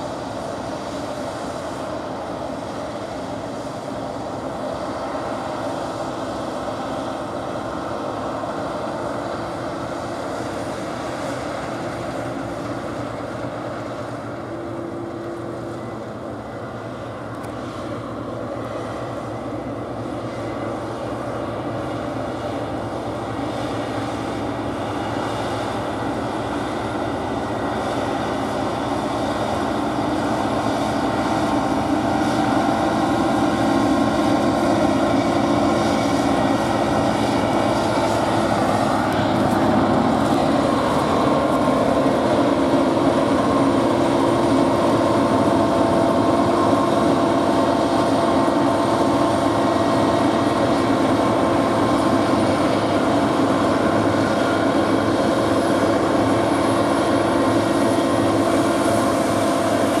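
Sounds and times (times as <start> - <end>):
combine harvester droning: 0.0 - 60.0.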